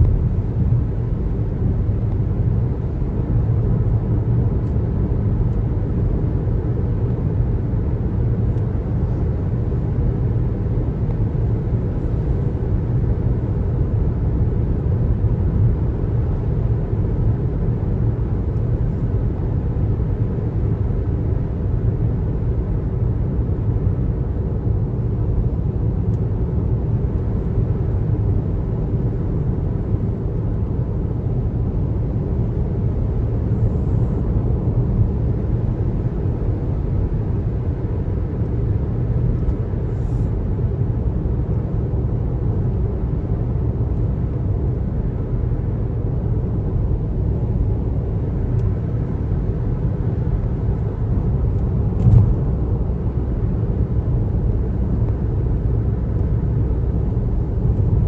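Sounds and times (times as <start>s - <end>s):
car road noise: 0.0s - 58.0s.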